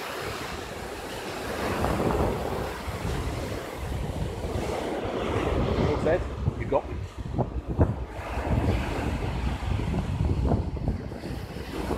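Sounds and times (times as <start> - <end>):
small waves breaking on shore: 0.0 - 11.9
wind buffeting microphone: 0.0 - 11.9.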